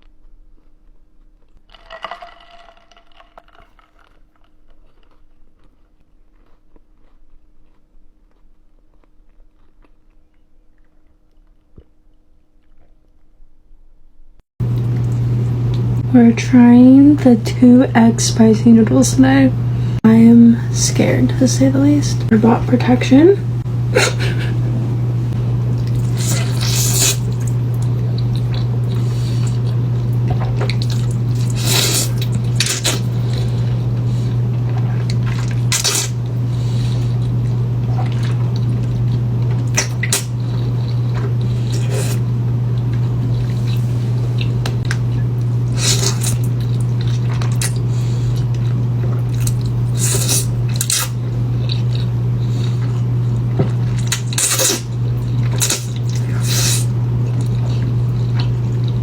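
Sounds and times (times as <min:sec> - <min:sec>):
eating noodles: 0:01.4 - 0:13.0, 0:19.8 - 0:59.0
steady low hum: 0:04.3 - 0:59.0.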